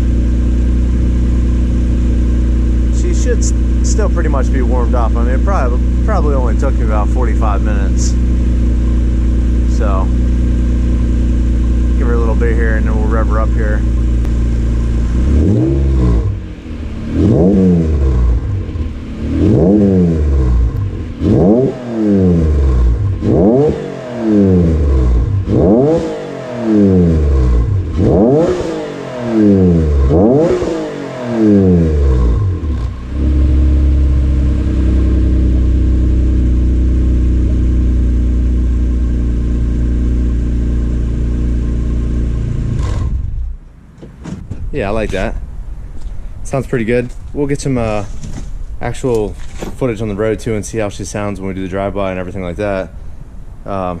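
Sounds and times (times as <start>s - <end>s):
car engine revving: 0.0s - 43.9s
car engine idling: 0.0s - 54.0s.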